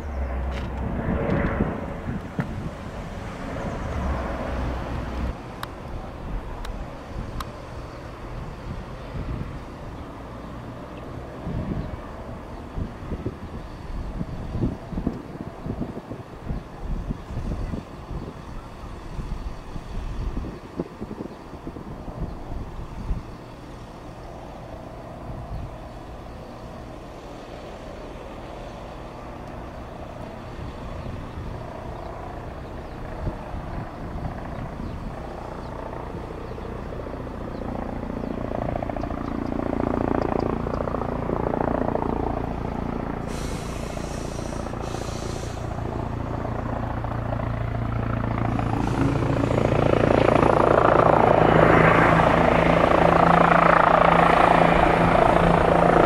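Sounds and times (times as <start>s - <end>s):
helicopter rotors and turbines: 0.0s - 56.0s.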